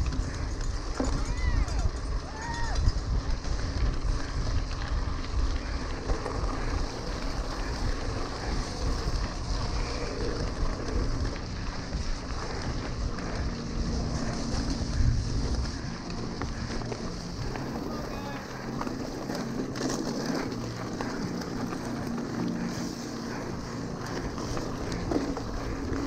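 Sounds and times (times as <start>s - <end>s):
wind noise on microphone: 0.0s - 21.7s
bike tyres on gravel: 0.0s - 26.0s.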